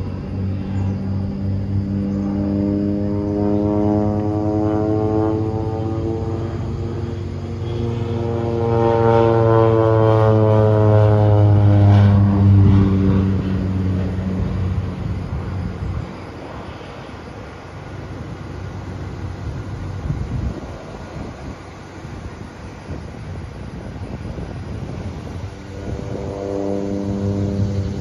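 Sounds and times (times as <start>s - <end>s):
propeller plane passing overhead: 0.0s - 28.0s.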